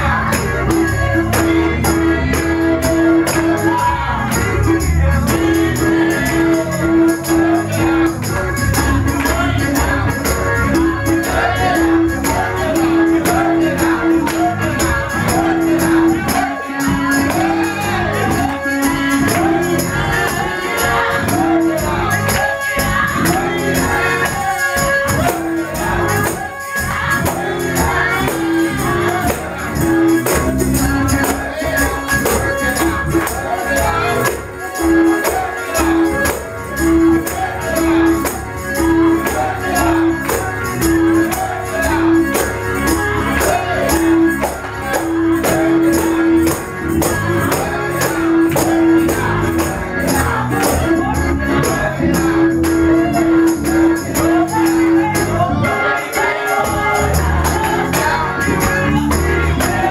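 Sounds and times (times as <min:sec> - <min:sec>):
tambourines: 0:00.0 - 0:59.9
voices singing: 0:00.0 - 0:59.9.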